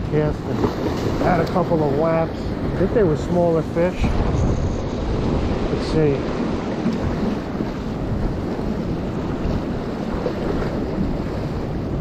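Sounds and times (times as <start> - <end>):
surf washing against jetty: 0.0 - 12.0
wind noise on microphone: 0.0 - 12.0.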